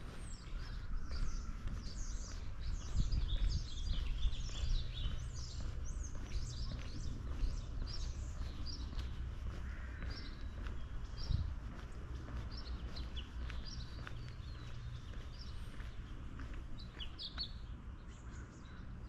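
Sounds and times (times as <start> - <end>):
low street rumble: 0.0 - 19.0
songbirds chirping: 0.0 - 19.0.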